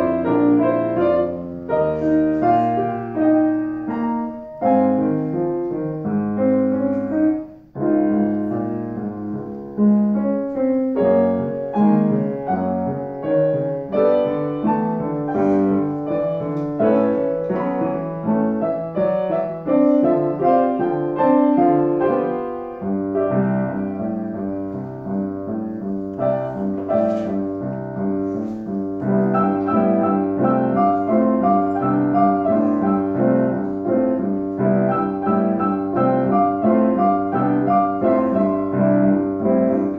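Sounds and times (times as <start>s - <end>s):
piano duet: 0.0s - 39.9s.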